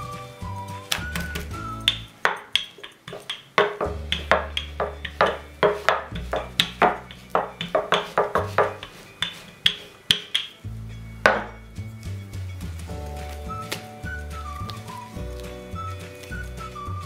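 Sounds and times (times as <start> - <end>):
background music with percussive beat: 0.0 - 17.0.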